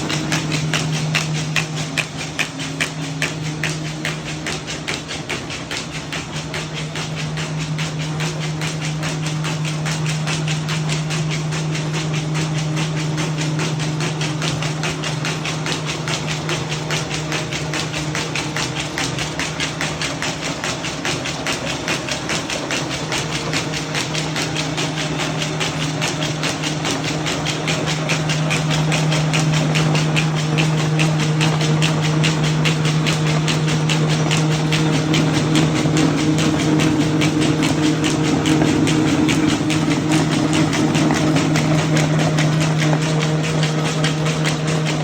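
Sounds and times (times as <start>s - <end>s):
machine humming: 0.0s - 15.5s, 23.6s - 45.0s
fast even clicking: 0.0s - 45.0s.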